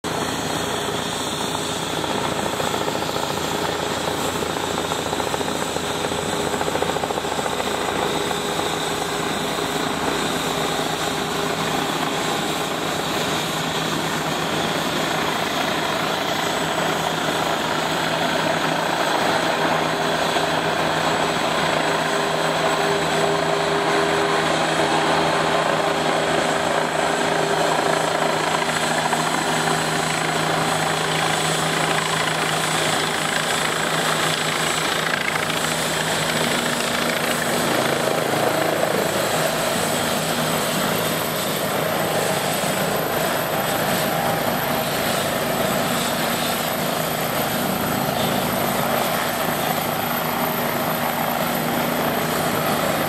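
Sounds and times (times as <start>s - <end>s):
helicopter flying overhead: 0.0s - 53.0s.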